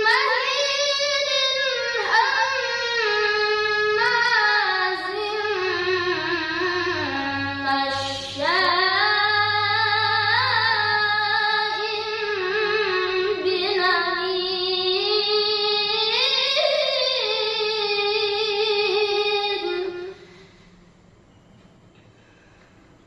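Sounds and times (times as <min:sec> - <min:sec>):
boy chanting recitation: 0:00.0 - 0:20.6.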